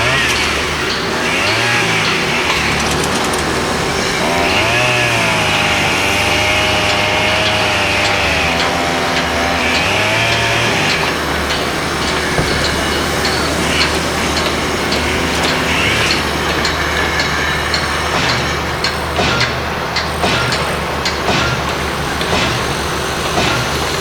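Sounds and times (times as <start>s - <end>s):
knocks and clanks: 0.0s - 24.0s
machinery din: 0.0s - 24.0s
power tool whining: 0.0s - 24.0s.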